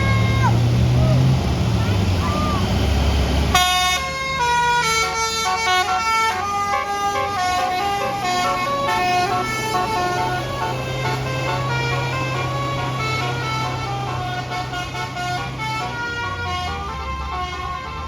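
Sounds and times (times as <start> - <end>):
bus engine running: 0.0 - 18.0
musical bus horn melody: 3.5 - 18.0.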